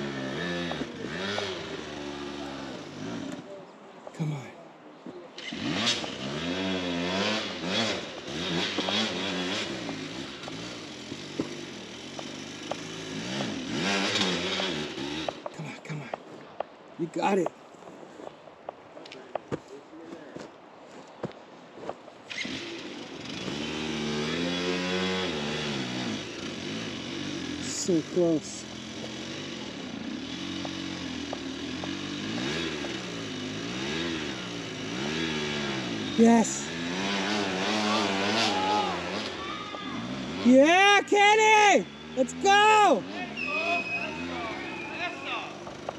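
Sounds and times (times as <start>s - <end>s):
dirt bike engine revving: 0.0s - 3.5s, 5.4s - 16.2s, 22.3s - 45.9s.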